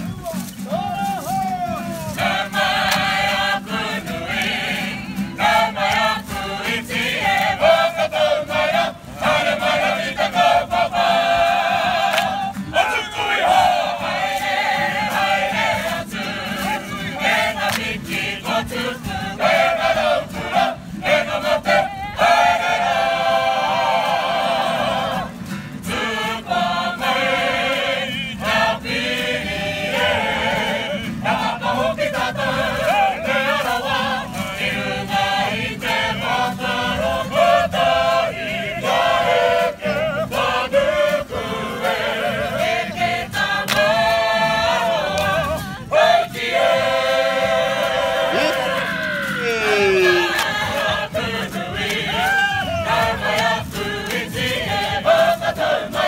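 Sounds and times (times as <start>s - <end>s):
group singing in unison: 2.0s - 56.0s.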